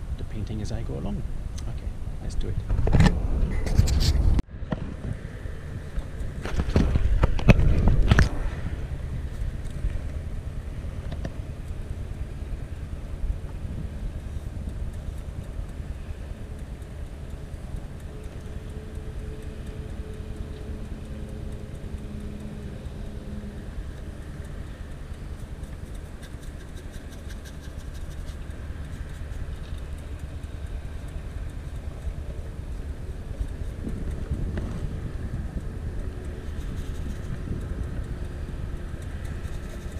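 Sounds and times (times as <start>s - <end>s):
freeway traffic rumble: 0.0s - 39.9s
engine tone: 4.4s - 39.9s.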